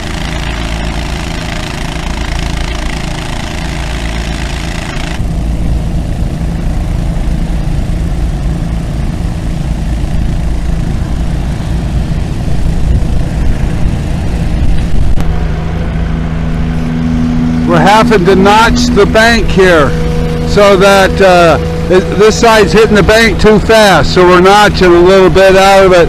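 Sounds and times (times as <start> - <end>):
heavy machinery engine droning: 0.0 - 26.0.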